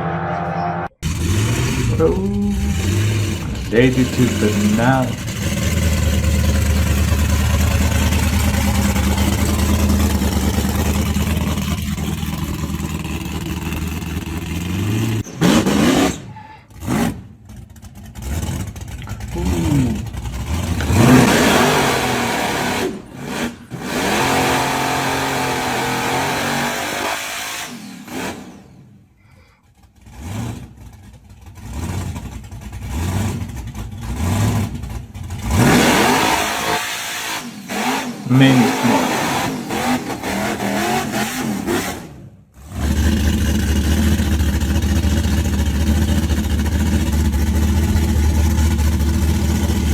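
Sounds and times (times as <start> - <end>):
car engine revving: 0.0 - 28.9, 29.8 - 49.9.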